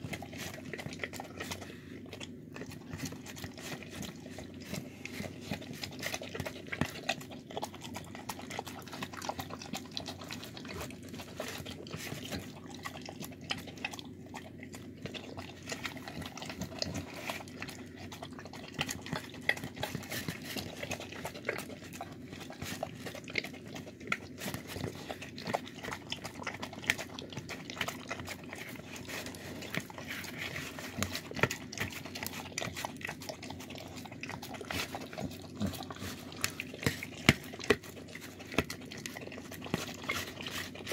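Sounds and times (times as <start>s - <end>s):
dog eating wet food: 0.0s - 40.9s.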